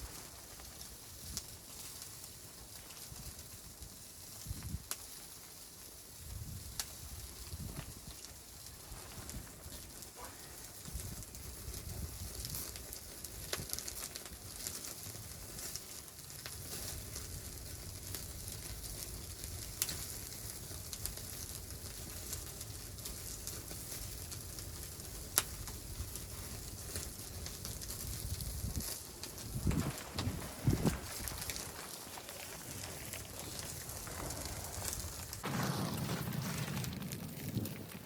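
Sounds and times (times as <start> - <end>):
sharp fire pops: 0.0 - 38.0
wood fire crackling and sizzling: 0.0 - 38.0.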